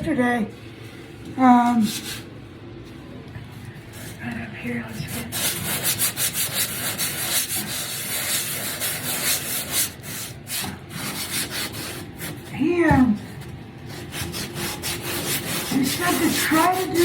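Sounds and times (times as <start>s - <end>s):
drywall sanded by hand: 1.5s - 2.3s, 3.9s - 17.0s.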